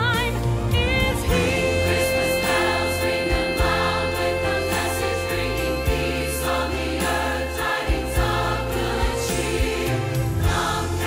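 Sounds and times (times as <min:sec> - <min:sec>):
choir with orchestra: 0:01.0 - 0:11.0.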